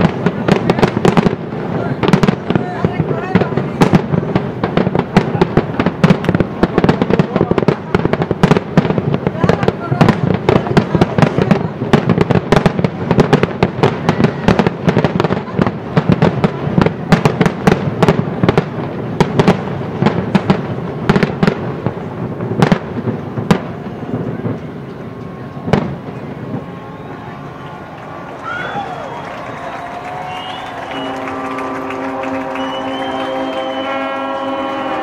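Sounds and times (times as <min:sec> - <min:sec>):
fireworks booming and crackling: 0:00.0 - 0:35.0.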